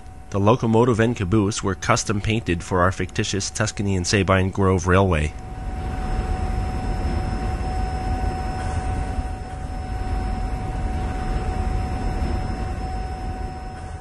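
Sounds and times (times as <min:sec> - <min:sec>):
diesel locomotive rumbling with whine: 0:00.0 - 0:14.0.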